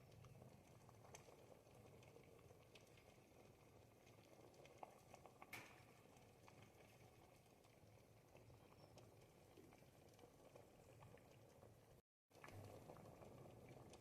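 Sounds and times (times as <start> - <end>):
soup bubbles popping: 0.0 - 14.0.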